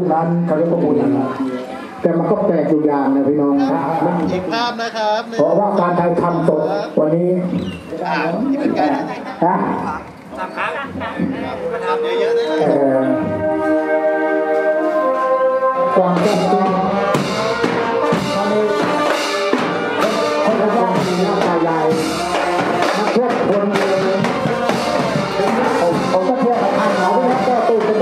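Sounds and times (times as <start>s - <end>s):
brass band music with drums: 0.0s - 28.0s.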